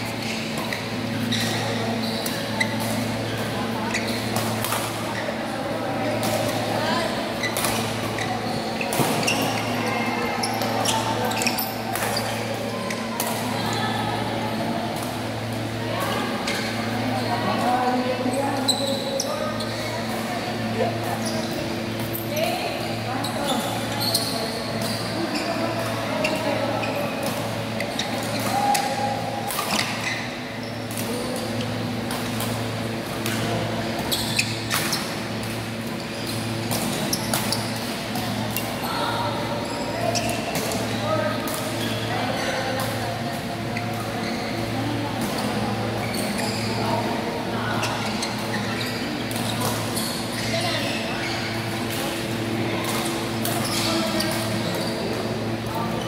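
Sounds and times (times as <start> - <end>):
shoes squeaking on court: 0.0 - 56.0.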